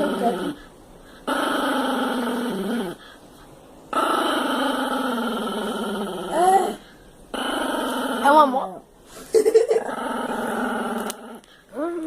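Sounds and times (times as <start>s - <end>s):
dog growling: 0.0s - 3.0s, 3.9s - 8.6s, 9.6s - 12.0s.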